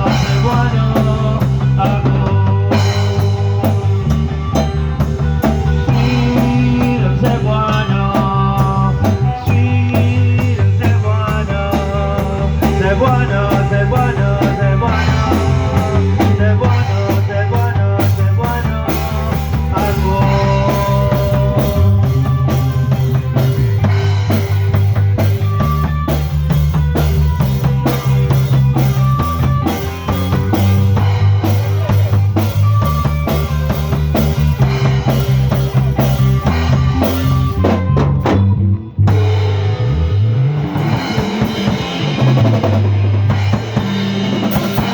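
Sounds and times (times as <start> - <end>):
bass line: 0.0 - 44.9
drum kit beating: 0.0 - 44.9
live rock band playing: 0.0 - 44.9.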